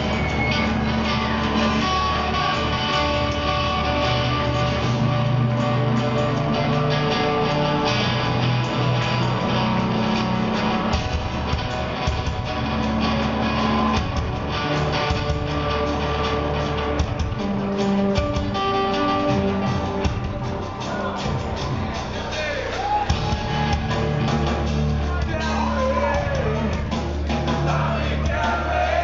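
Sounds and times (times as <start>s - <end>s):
electric guitars: 0.0s - 28.2s
bass notes: 0.0s - 29.0s
drums: 0.0s - 29.0s
rock band playing: 0.0s - 29.0s.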